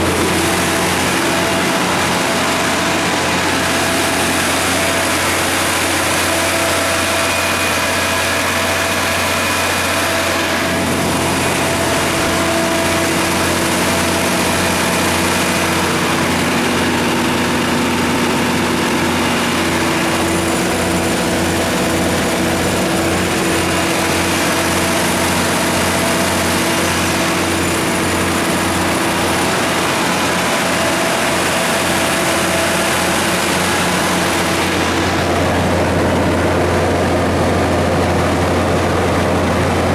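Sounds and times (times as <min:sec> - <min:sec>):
generator engine humming: 0:00.0 - 0:39.9.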